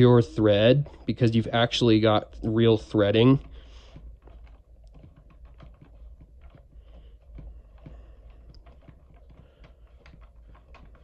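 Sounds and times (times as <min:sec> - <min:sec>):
clicks and taps of handling pipe: 0:00.0 - 0:11.0.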